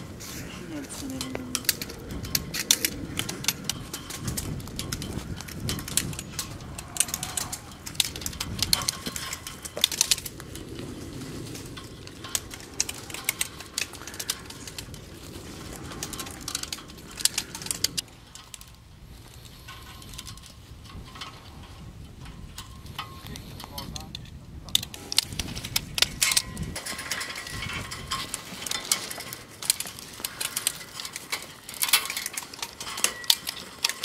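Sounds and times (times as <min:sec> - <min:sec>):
vine canes rustling: 0:00.0 - 0:34.0.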